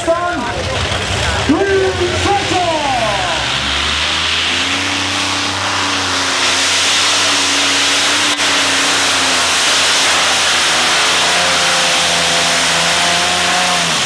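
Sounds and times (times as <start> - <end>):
tractor engine running flat out: 0.0 - 14.0
engine hiss: 0.1 - 14.0.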